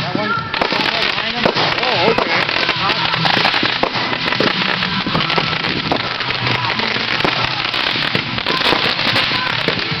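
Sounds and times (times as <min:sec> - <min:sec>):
fireworks crackling and popping: 0:00.0 - 0:10.0.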